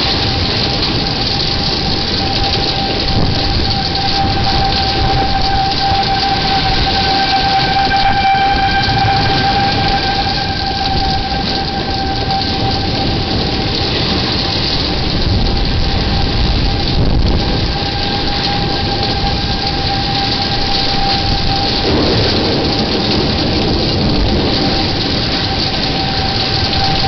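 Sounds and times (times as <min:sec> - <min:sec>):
distant tornado siren: 0:00.0 - 0:27.0
storm wind and heavy rain: 0:00.0 - 0:27.0.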